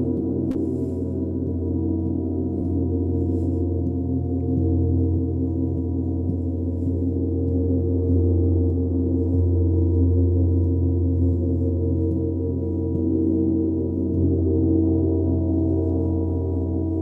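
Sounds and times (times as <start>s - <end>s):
deep ringing drone: 0.0s - 17.0s.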